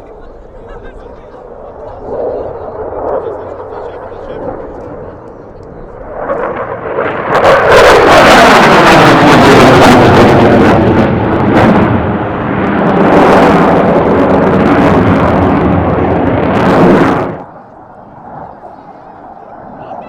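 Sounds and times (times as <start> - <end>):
aircraft low fly-past: 0.0 - 20.0.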